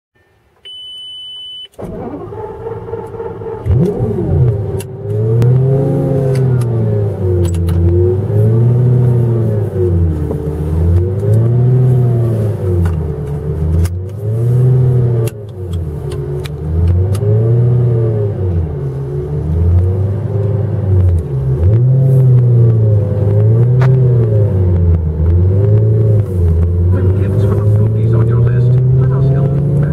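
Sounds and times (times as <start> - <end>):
car engine starting: 0.7 - 29.9
car engine revving: 1.8 - 29.9.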